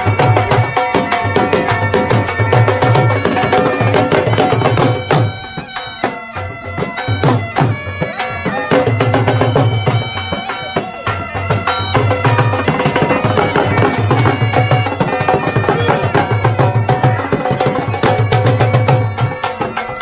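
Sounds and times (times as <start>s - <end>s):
drum beaten in steady rhythm: 0.0s - 20.0s
reedy wind instrument melody: 0.0s - 20.0s.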